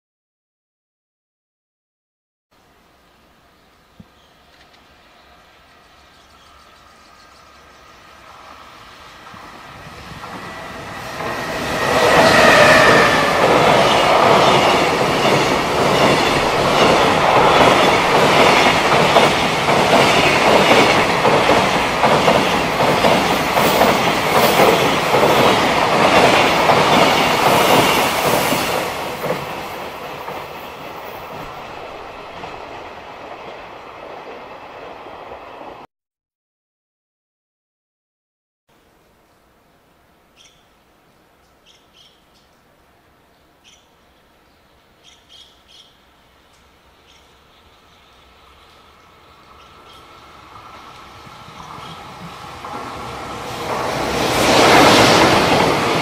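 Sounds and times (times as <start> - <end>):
train passing: 4.9 - 35.9, 39.5 - 56.0.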